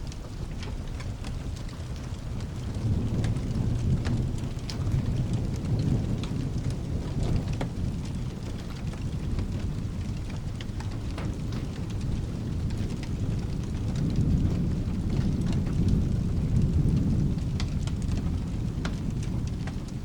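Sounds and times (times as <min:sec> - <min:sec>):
rolling thunder: 0:00.0 - 0:20.0
steady rain: 0:00.0 - 0:20.0
wood fire crackling: 0:00.0 - 0:20.0.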